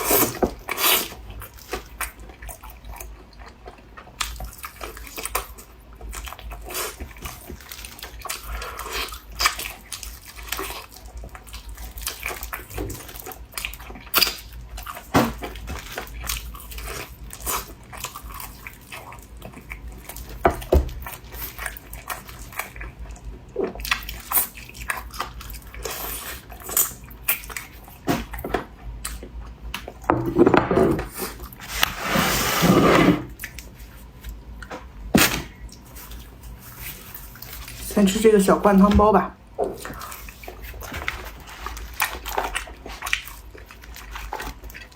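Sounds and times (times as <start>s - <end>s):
wet chewing: 0.0s - 30.1s, 33.3s - 38.1s, 39.6s - 44.9s.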